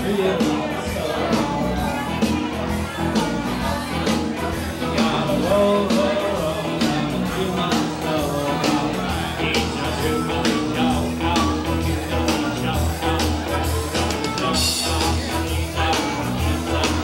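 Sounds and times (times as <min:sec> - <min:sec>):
man singing into microphone: 0:00.0 - 0:02.1, 0:03.7 - 0:17.0
amplified rock backing music: 0:00.0 - 0:17.0.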